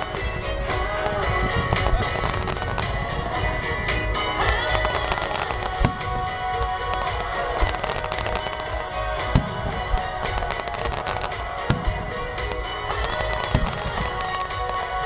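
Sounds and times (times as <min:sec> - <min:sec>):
firework shells booming: 0:00.0 - 0:15.0
fireworks crackling: 0:00.0 - 0:15.0
music playing: 0:00.0 - 0:15.0.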